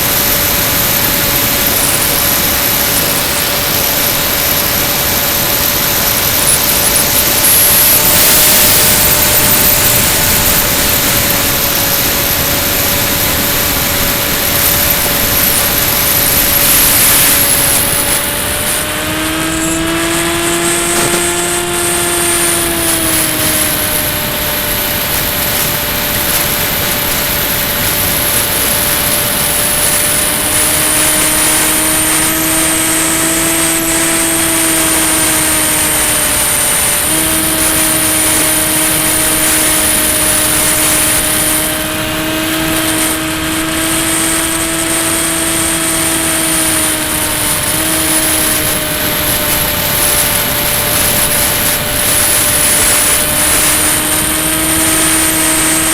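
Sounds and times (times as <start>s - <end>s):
low motor hum: 0.0s - 55.9s
model plane motor whine: 0.0s - 55.9s.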